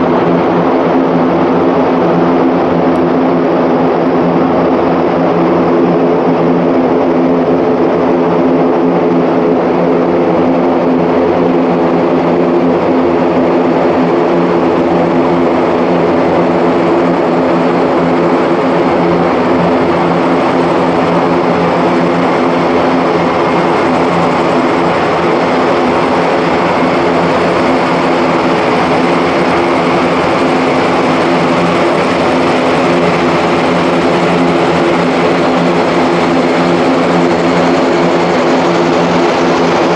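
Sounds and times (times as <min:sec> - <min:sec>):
propeller engines humming: 0:00.0 - 0:39.9.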